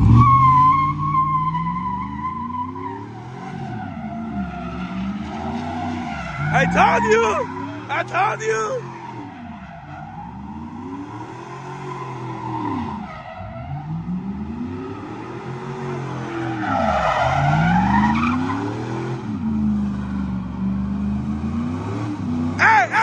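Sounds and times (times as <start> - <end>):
truck engine revving: 0.0 - 9.2, 13.7 - 23.0
tires squealing on pavement: 0.0 - 20.3, 22.6 - 23.0.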